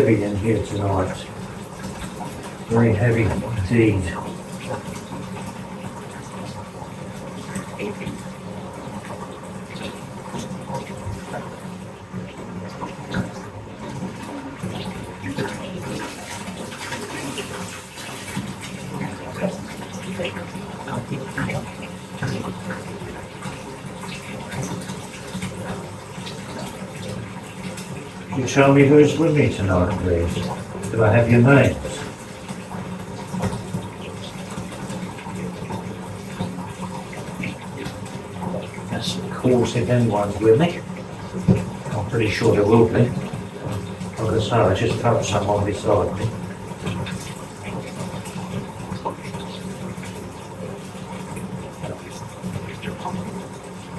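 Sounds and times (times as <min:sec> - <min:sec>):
bath tap running into tub: 0:00.0 - 0:53.9.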